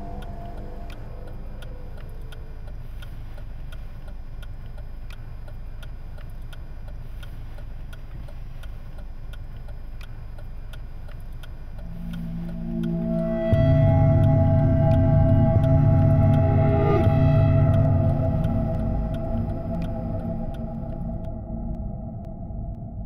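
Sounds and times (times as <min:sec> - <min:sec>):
constant low rumble: 0:00.0 - 0:23.0
steady ticking: 0:00.0 - 0:23.0.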